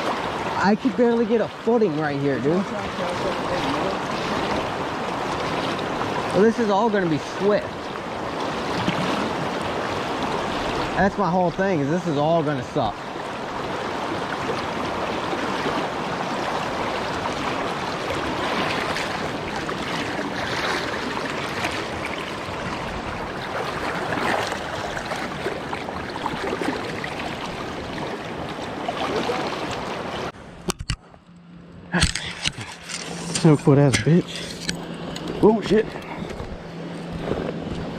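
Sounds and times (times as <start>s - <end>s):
creek floodwater rushing: 0.0s - 30.4s, 32.0s - 37.9s.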